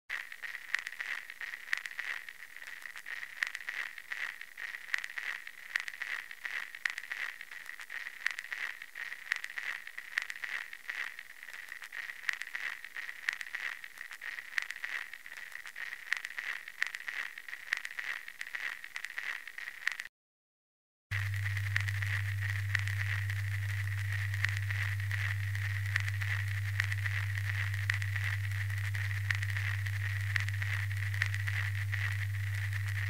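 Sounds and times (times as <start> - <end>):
irregular crackles: 0.1 - 20.1, 21.1 - 33.0.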